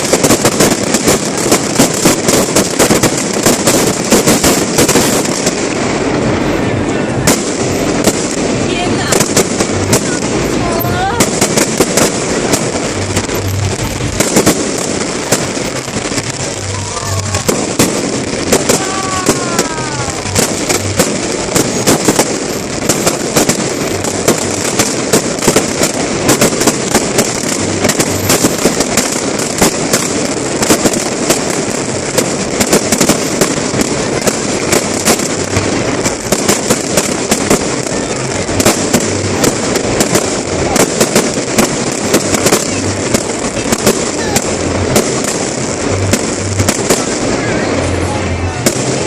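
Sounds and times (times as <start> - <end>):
fireworks cracking and crackling: 0.0 - 49.0
low fireworks booms: 0.0 - 49.0.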